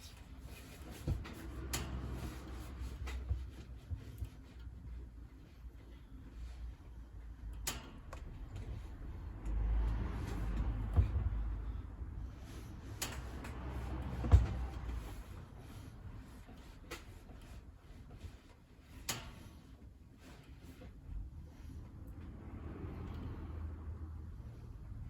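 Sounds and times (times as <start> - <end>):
wood fire crackling in stove: 0.0 - 25.0.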